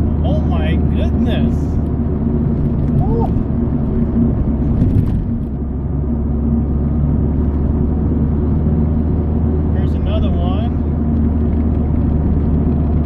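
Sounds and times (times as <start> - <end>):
car engine drone inside cabin: 0.0 - 13.0.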